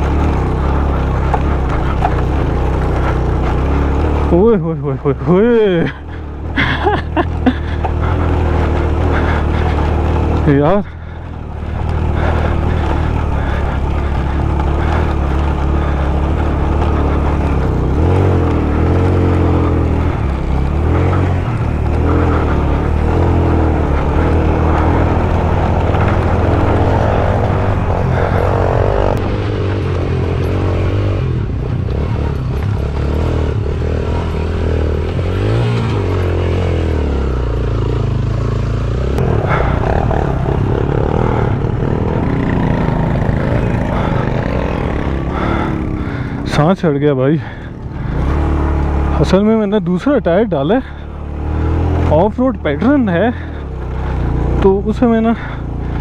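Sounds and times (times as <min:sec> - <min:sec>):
motorcycle engine pulling uphill: 0:00.0 - 0:56.0.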